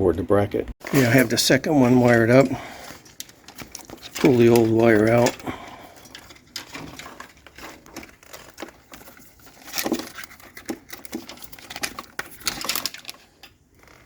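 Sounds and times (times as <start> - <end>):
wire rustling and scraping: 0.8 - 14.0.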